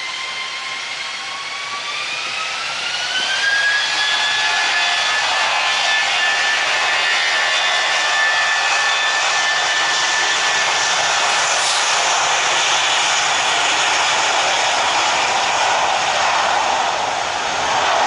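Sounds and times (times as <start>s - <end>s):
high engine whine: 0.0s - 18.0s
jet engines roaring: 0.0s - 18.0s.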